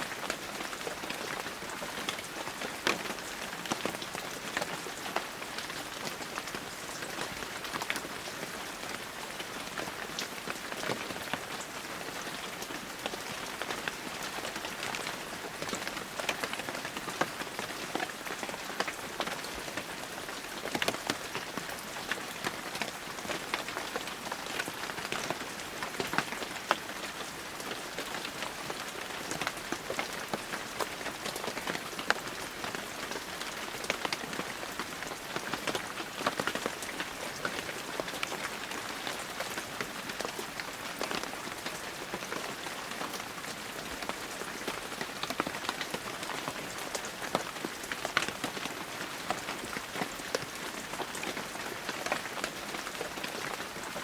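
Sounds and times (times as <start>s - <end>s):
heavy rain falling: 0.0s - 54.0s
raindrops ticking close by: 0.1s - 54.0s.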